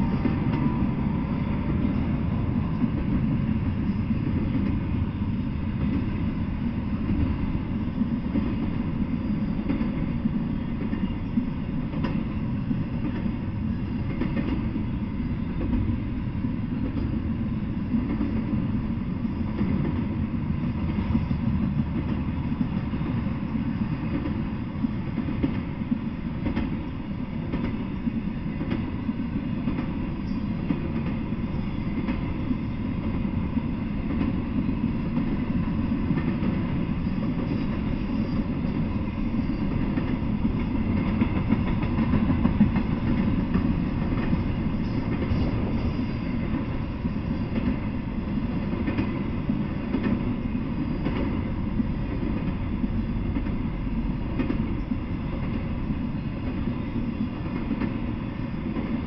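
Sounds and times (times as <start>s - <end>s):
train cars clattering: 0.0s - 59.0s
train wheels rumbling on rails: 0.0s - 59.0s.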